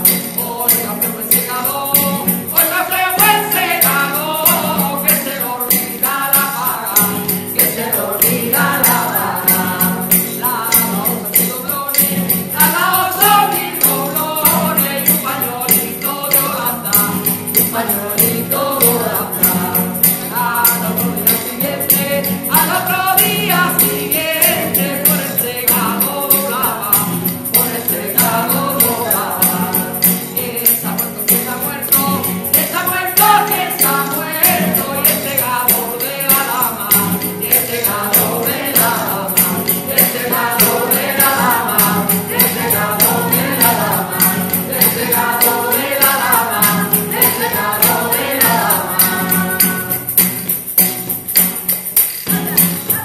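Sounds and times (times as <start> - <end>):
women singing together: 0.0 - 50.2, 52.3 - 53.0
rhythmic hand clapping: 0.0 - 53.0.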